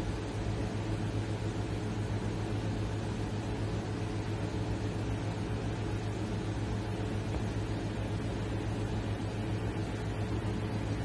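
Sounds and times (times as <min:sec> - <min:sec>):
low machine hum with hiss: 0:00.0 - 0:11.0.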